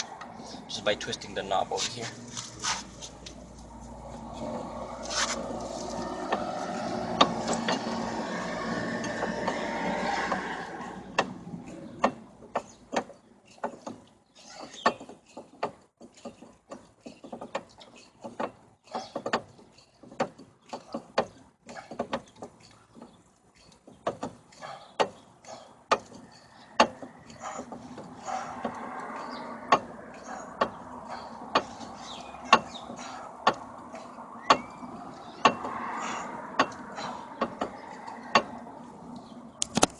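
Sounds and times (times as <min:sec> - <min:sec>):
tool creaking scrape: 0:01.7 - 0:03.4, 0:04.0 - 0:24.8, 0:25.5 - 0:38.6.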